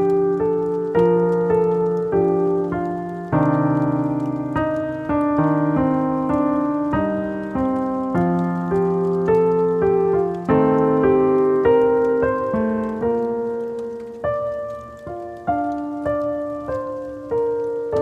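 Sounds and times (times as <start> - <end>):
slow wistful piano music: 0.0 - 18.0.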